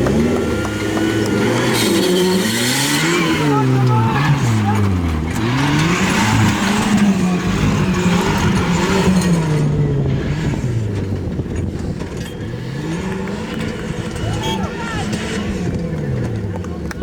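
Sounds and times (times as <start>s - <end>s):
off-road vehicle engine revving: 0.0s - 17.0s
rough mechanical noise: 0.0s - 17.0s.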